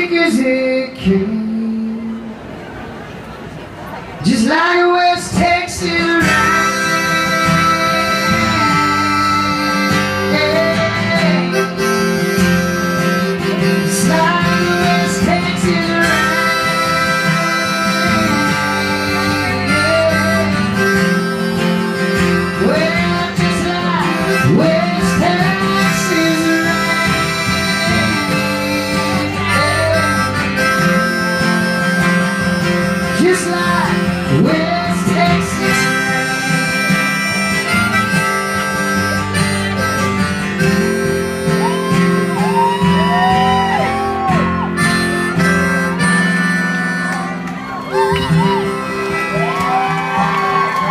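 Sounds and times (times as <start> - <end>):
strummed acoustic guitar: 4.7 - 50.9
bending lead guitar melody: 5.0 - 50.9.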